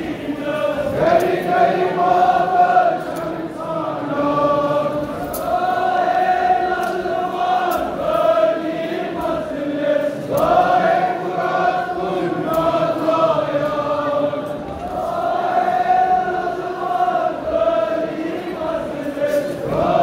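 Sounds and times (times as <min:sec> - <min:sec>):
crowd of men chanting: 0:00.0 - 0:20.0.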